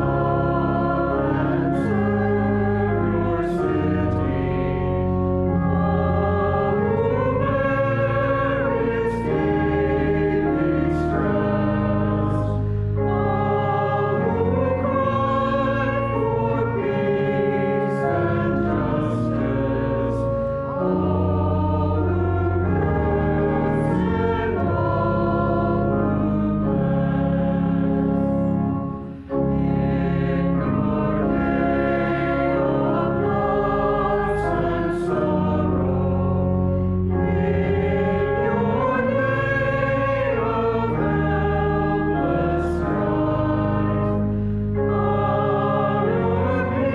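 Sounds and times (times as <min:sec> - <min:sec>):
congregation singing a hymn: 0:00.0 - 0:46.9.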